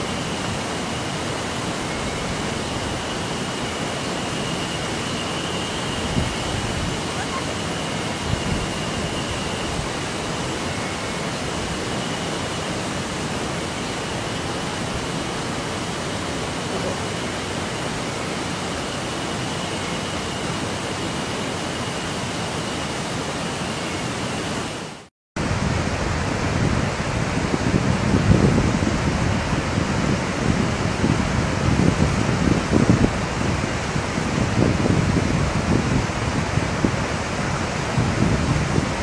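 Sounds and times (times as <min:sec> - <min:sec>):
flowing river water: 0:00.0 - 0:39.0.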